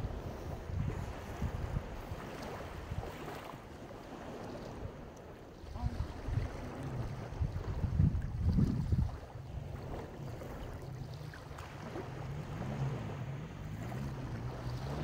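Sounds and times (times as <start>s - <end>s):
low rumble of surf: 0.0s - 15.0s
wind buffeting microphone: 0.0s - 15.0s.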